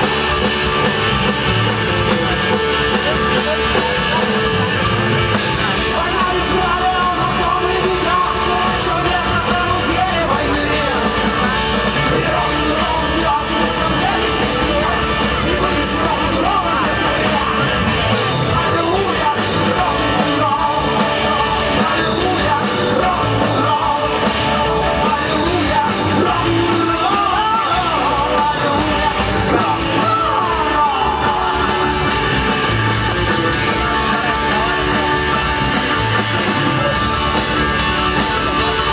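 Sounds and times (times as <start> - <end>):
rock song with guitar and vocals: 0.0 - 38.9.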